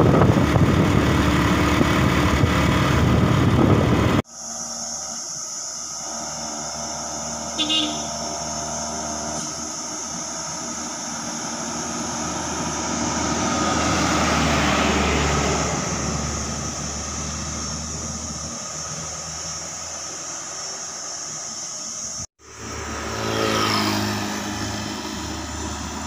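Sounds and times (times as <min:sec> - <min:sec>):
diesel truck driving past: 0:00.0 - 0:26.0.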